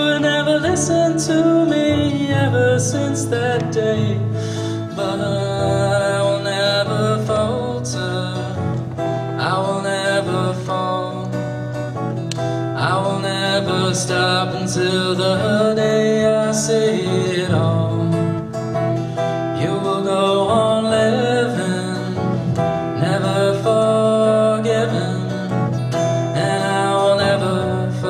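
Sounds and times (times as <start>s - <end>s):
man singing: 0.0s - 11.7s, 12.7s - 18.8s, 19.4s - 28.0s
acoustic guitar strumming: 0.0s - 28.0s.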